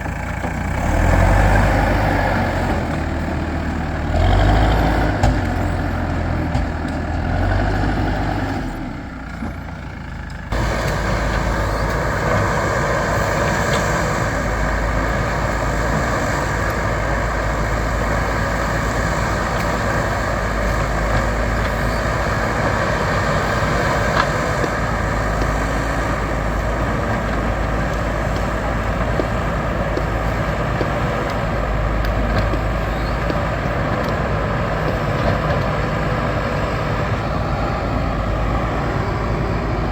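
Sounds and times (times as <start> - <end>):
diesel engine throbbing: 0.0 - 39.9.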